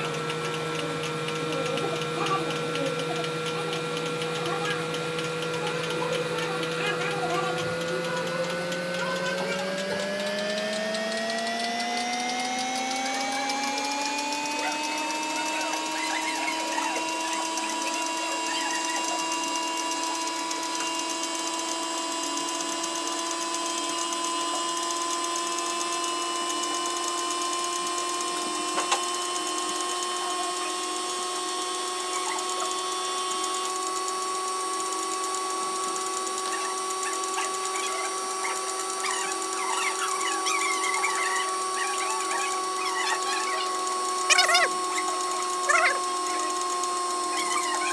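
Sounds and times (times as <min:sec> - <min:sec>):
motor-driven machine whining: 0:00.0 - 0:47.9.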